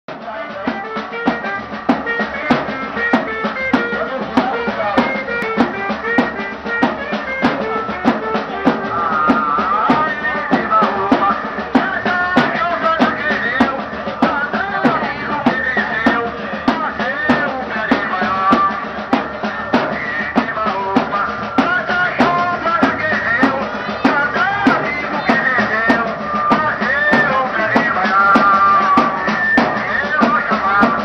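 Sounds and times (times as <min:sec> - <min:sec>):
bass drum beat: 0:00.1 - 0:31.0.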